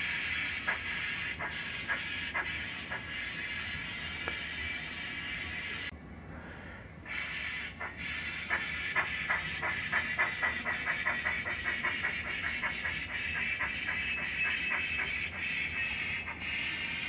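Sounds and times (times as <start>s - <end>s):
model steam chuffs: 0.0s - 5.9s, 7.0s - 17.0s
steady hiss: 0.0s - 17.0s.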